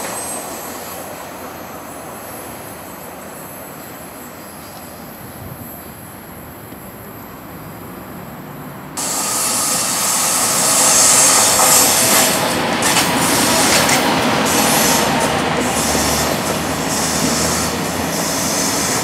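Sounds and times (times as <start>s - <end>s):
high-speed train rushing past: 0.0s - 19.0s.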